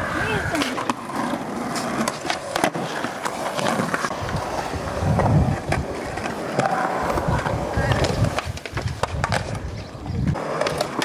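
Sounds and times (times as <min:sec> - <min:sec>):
skateboard clacking on ground: 0:00.0 - 0:11.0
skateboard wheels rolling on concrete: 0:00.0 - 0:11.0.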